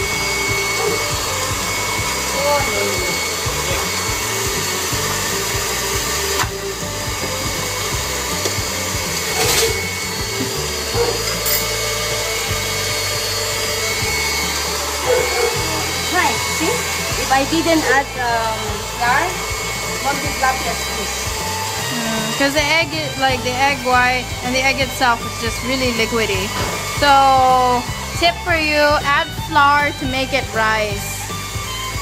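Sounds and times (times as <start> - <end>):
electric fan whirring: 0.0 - 32.0.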